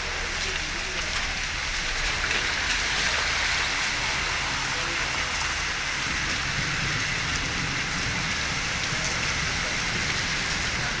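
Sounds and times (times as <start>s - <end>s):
heavy rain on asphalt: 0.0s - 11.0s.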